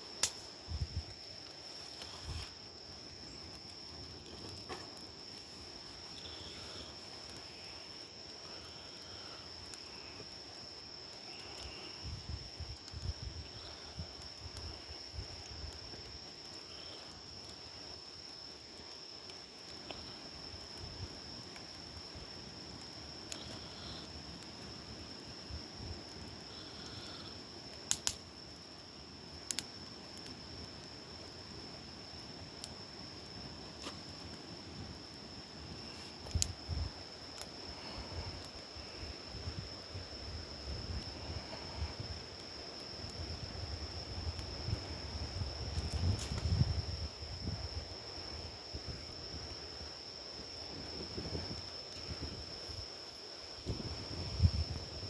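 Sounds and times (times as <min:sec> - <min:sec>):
fire popping: 0:00.0 - 0:55.0
high-pitched insect chorus: 0:00.0 - 0:55.0
wood campfire burning: 0:00.0 - 0:55.0.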